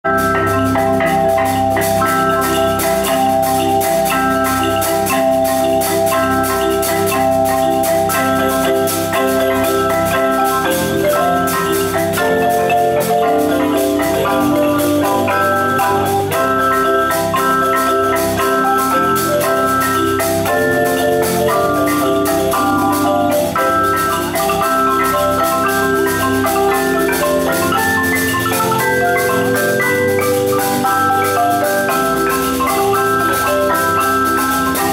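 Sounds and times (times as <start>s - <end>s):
marimba ensemble playing: 0.0s - 34.9s.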